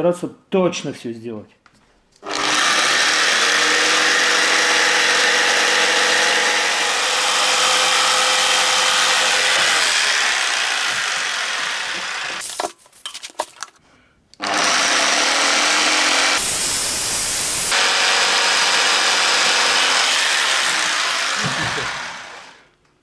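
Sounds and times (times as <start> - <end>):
electric jigsaw cutting wood: 2.2 - 12.6, 14.4 - 22.8.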